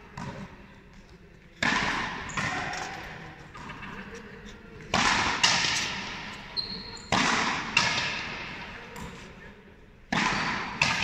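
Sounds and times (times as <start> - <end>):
rackets striking ball: 0.1 - 9.4, 10.0 - 11.0.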